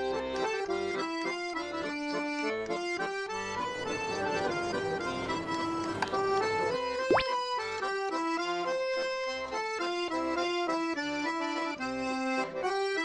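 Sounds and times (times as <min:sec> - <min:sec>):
accordion playing quick melody: 0:00.1 - 0:13.0.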